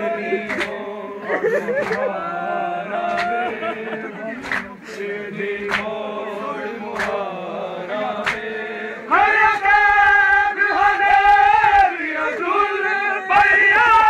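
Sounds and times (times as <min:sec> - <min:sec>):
men chanting a lament in unison: 0:00.0 - 0:14.0.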